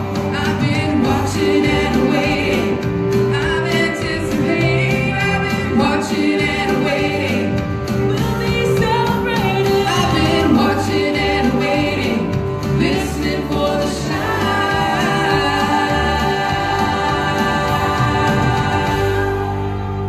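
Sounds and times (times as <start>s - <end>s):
instrumental accompaniment: 0.0s - 20.0s
women singing gospel: 0.0s - 20.0s.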